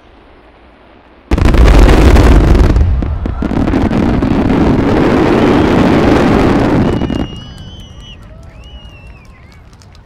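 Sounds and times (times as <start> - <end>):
fireworks crackling and rumbling: 0.0 - 10.0.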